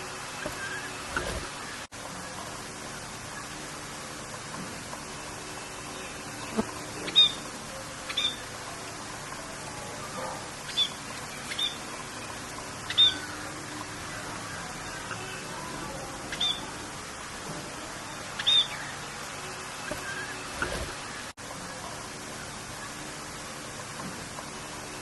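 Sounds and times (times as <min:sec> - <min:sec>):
birds chirping: 0:00.0 - 0:24.6
rain hissing: 0:00.0 - 0:25.0.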